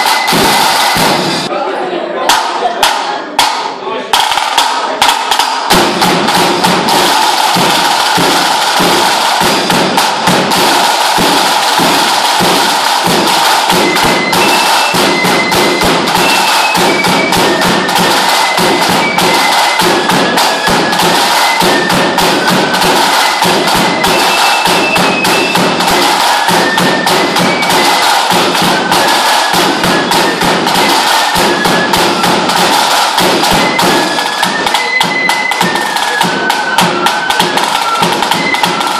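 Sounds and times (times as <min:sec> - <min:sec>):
drum rattling with sticks: 0:00.0 - 0:01.5, 0:02.3 - 0:38.9.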